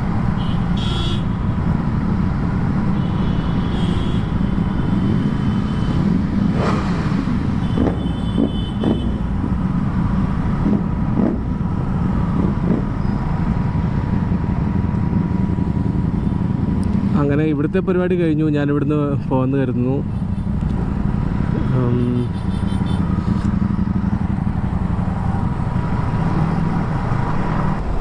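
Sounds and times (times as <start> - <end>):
motorcycle engines running: 0.0 - 28.0.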